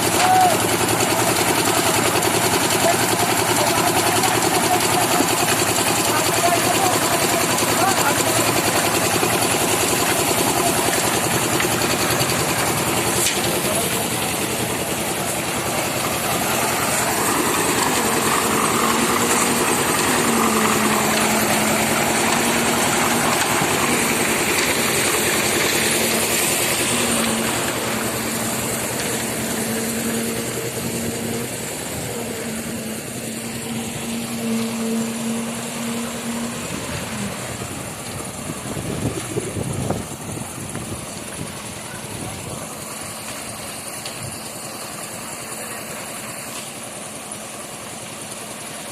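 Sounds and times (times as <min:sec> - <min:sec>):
engine running: 0:00.0 - 0:48.9.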